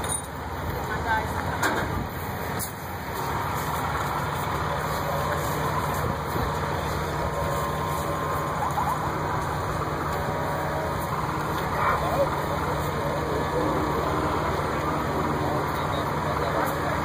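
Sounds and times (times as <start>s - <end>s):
fire engines idling: 0.0s - 17.0s.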